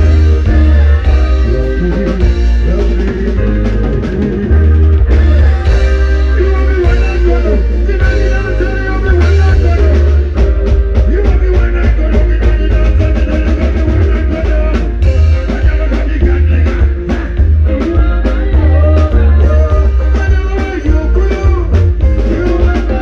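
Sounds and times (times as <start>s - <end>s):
drum kit: 0.0s - 23.0s
heavy pulsing bass: 0.0s - 23.0s
loud band music: 0.0s - 23.0s.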